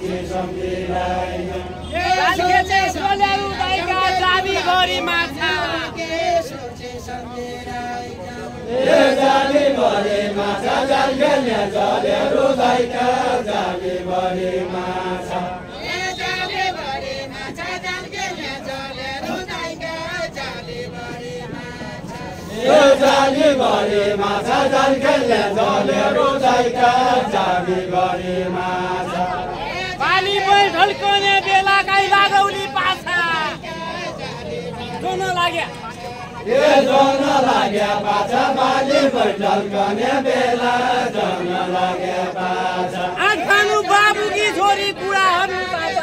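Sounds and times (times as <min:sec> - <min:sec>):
group singing unaccompanied: 0:00.0 - 0:46.0.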